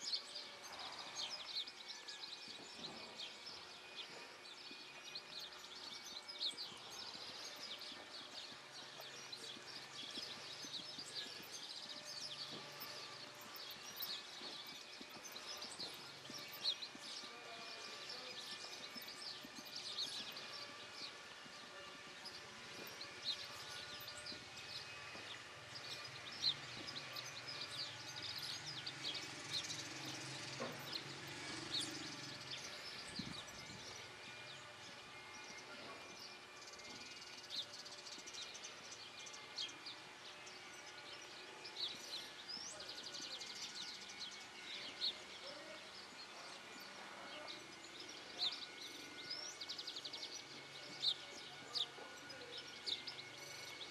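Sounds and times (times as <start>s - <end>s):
small birds singing: 0.0s - 53.9s.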